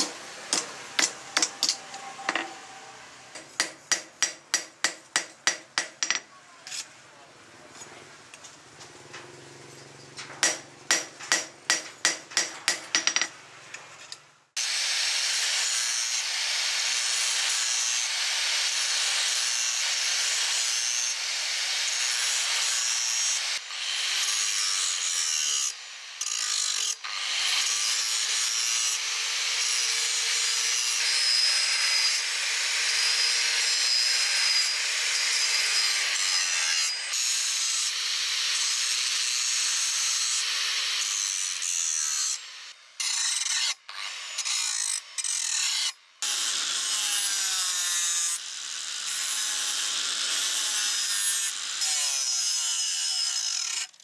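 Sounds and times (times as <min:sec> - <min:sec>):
angle grinder grinding metal: 0:00.0 - 0:04.4, 0:08.9 - 0:54.0.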